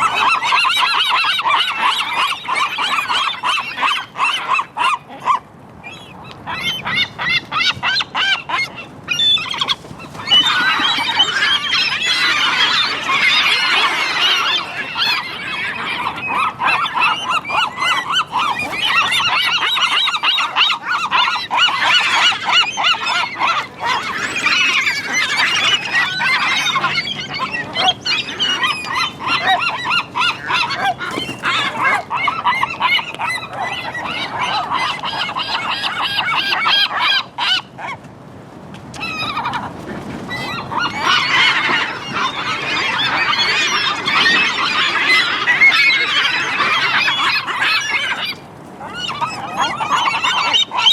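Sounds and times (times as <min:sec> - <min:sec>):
gulls calling: 0:00.0 - 0:38.0, 0:38.9 - 0:50.9.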